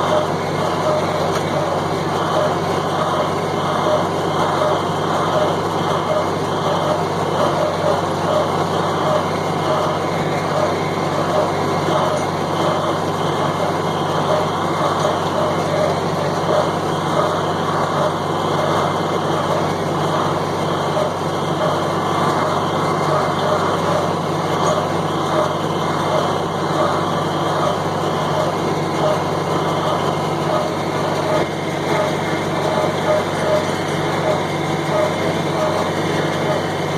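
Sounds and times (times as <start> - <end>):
tractor engine under load: 0.0 - 36.9.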